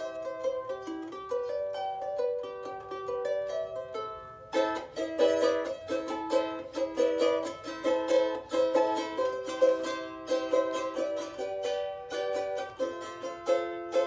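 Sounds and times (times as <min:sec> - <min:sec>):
plucked string instrument melody: 0:00.0 - 0:14.0.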